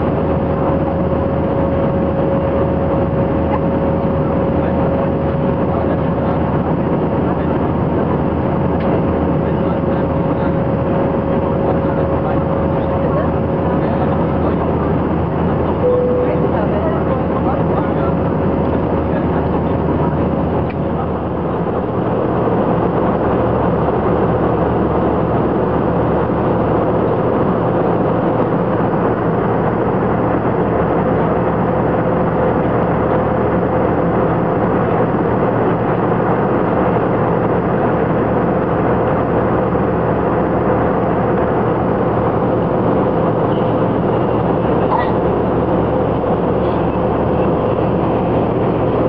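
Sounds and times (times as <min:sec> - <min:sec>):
jet engine and airflow rush: 0:00.0 - 0:49.0
steady droning tone: 0:00.0 - 0:49.0.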